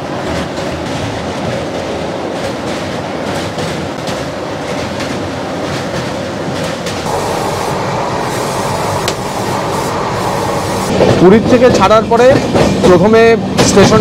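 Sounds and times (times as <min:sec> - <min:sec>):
rail clicks: 0:00.0 - 0:14.0
train wheels and wind rumbling: 0:00.0 - 0:14.0.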